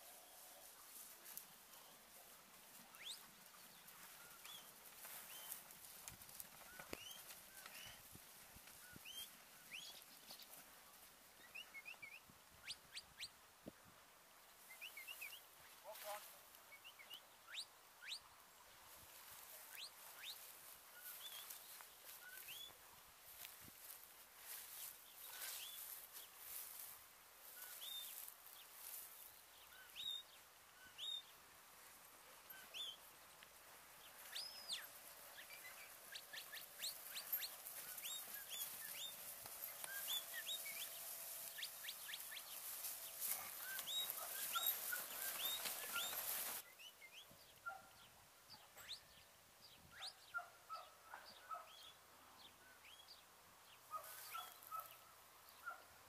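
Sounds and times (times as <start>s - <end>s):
small birds chirping: 0.0s - 13.8s, 14.4s - 56.0s.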